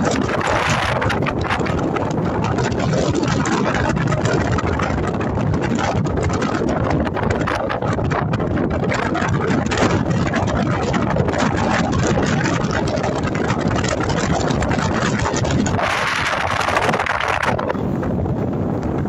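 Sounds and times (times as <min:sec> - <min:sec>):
cloth flag flapping: 0:00.0 - 0:19.0
ship engine low rumble: 0:00.0 - 0:19.0
wind blowing: 0:00.0 - 0:19.0.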